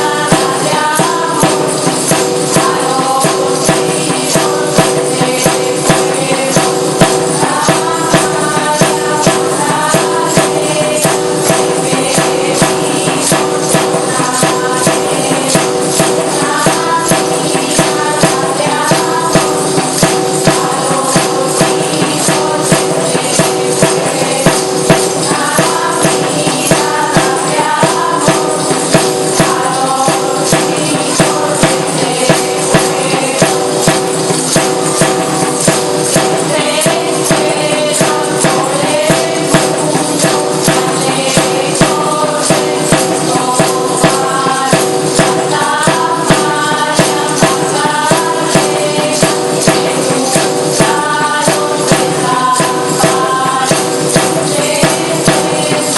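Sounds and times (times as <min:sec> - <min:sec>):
tambourines beating: 0:00.0 - 0:55.9.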